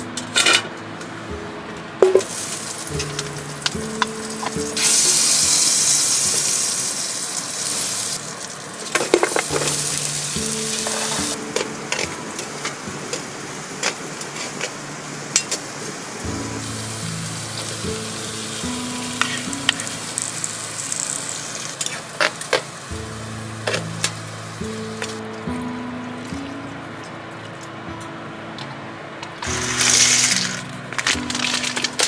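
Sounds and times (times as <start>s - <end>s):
background music with held notes: 0.0s - 32.0s
food sizzling in a pan: 2.0s - 25.2s, 29.4s - 32.0s.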